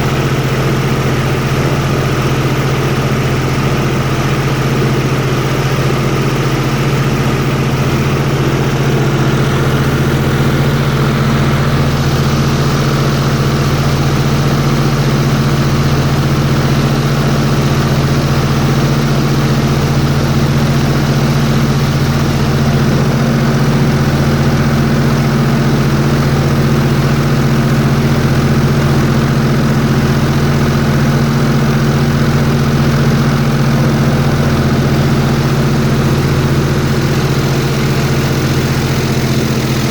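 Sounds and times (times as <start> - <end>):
airboat engine drone: 0.0 - 39.9.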